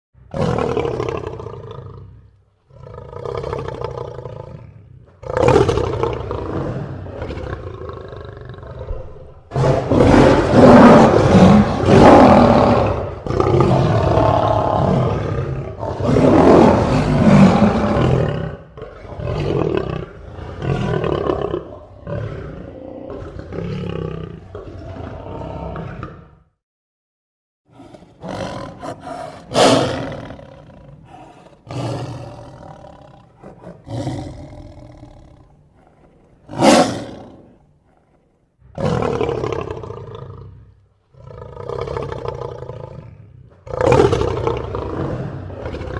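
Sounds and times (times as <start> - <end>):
lion roaring: 0.2 - 26.5, 27.7 - 45.9.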